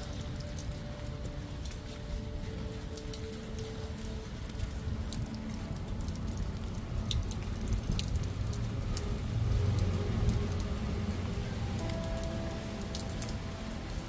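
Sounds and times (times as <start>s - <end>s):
rain pattering on brick patio: 0.0s - 14.0s.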